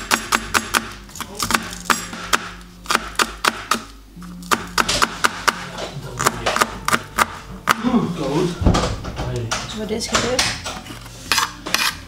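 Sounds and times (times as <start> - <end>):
knife chopping on cutting board: 0.0 - 7.9, 10.2 - 12.0
background music: 0.0 - 12.0.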